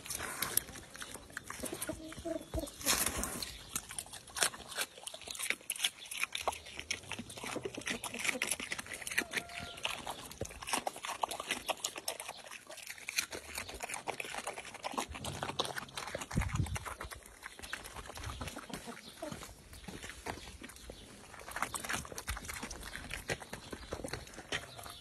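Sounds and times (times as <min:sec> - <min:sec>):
pig chewing watermelon: 0:00.0 - 0:25.0.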